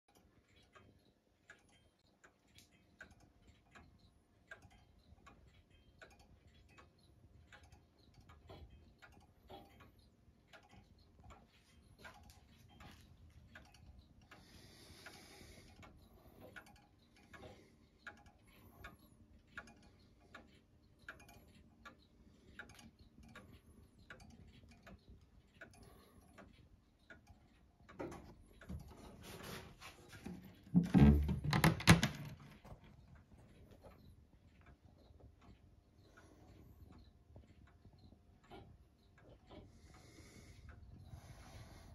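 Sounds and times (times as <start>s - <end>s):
clock ticking: 0.0s - 41.9s.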